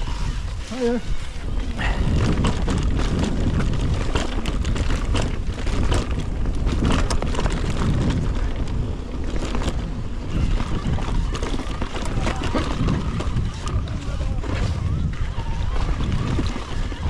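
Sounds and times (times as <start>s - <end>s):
bike rattling: 0.0s - 17.0s
wind rumble on microphone: 0.0s - 17.0s.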